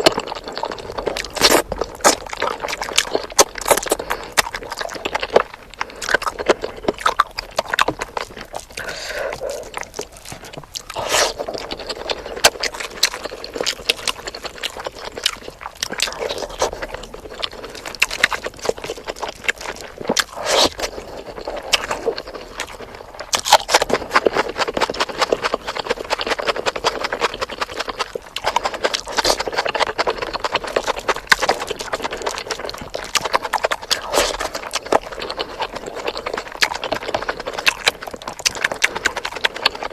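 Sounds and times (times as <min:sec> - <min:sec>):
person chewing with wet smacking: 0:00.0 - 0:39.9.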